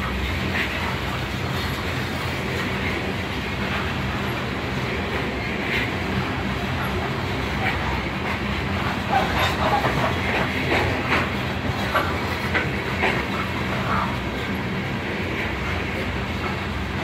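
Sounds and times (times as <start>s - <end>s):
steel wheels rumbling on rail: 0.0s - 17.0s
wheels clacking over rail joints: 0.0s - 17.0s.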